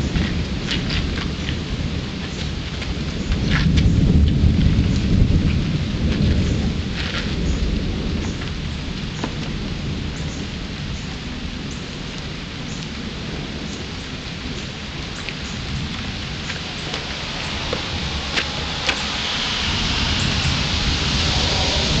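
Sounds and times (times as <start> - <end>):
deep rumble: 0.0 - 22.0
rain on wet pavement: 0.0 - 22.0.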